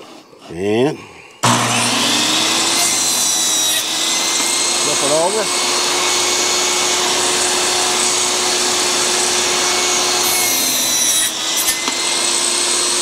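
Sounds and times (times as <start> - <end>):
table saw cutting wood: 1.4 - 13.0.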